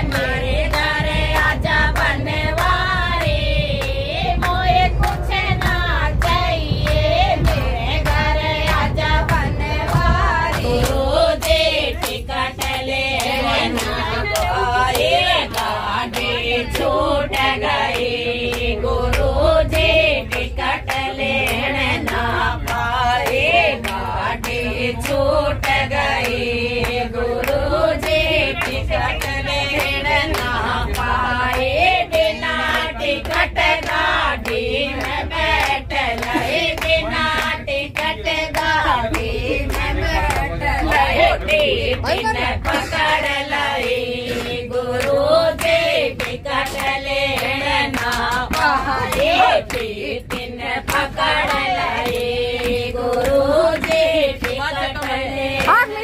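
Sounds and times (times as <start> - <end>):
group singing devotional song: 0.0 - 56.0
hand clapping: 0.0 - 56.0.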